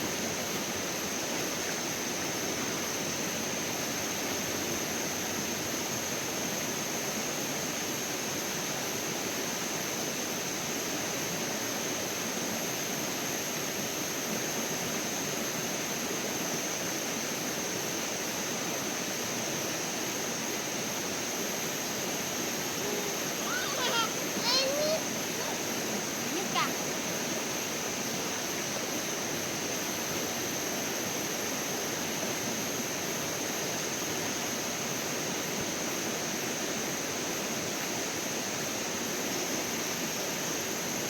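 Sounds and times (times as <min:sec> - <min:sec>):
stream rushing: 0:00.0 - 0:41.0.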